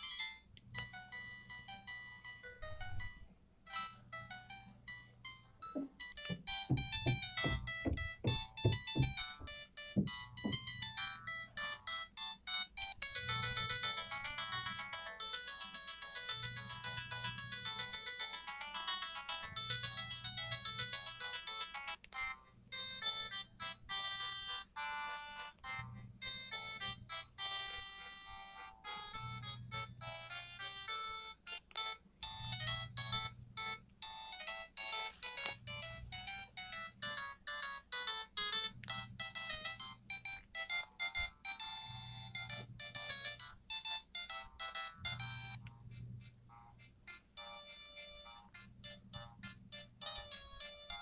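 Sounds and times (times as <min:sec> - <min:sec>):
mobile phone ringtone melodies: 0:00.0 - 0:51.0.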